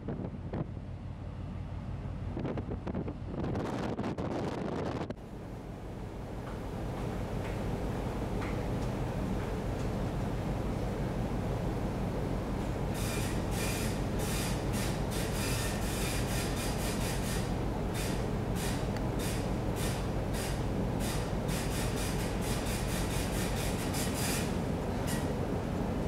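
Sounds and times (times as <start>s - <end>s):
ship low rumble: 0.0s - 26.0s.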